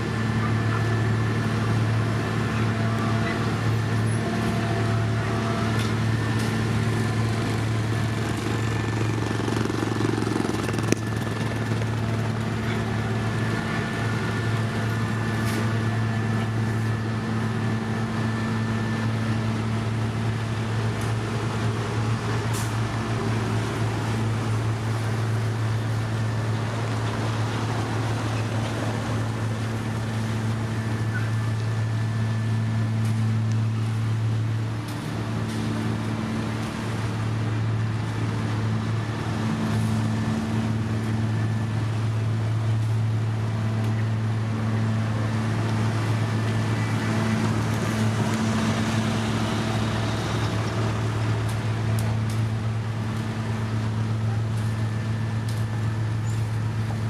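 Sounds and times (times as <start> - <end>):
paving machinery engine drone: 0.0 - 57.0.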